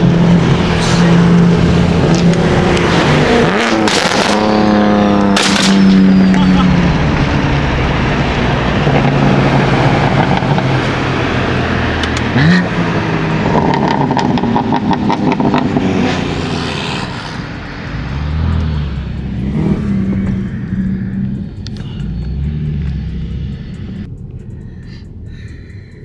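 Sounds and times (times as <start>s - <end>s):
car engine accelerating hard: 0.0s - 26.0s
exhaust crackles: 0.0s - 26.0s.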